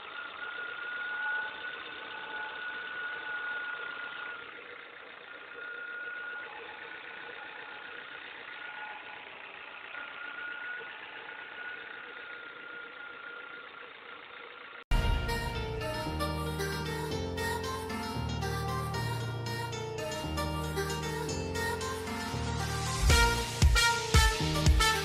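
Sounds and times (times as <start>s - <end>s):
high-pitched engine whine: 0.0s - 25.0s.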